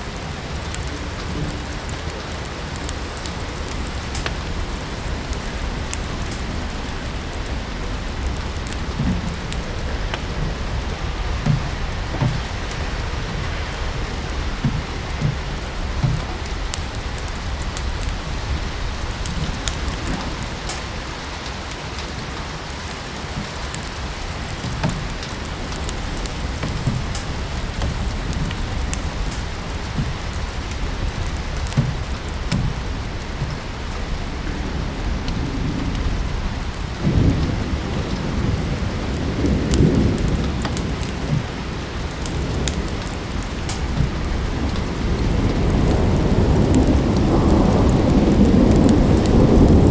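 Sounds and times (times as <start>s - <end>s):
steady rain: 0.0s - 49.9s
wood fire crackling and popping: 0.0s - 49.9s.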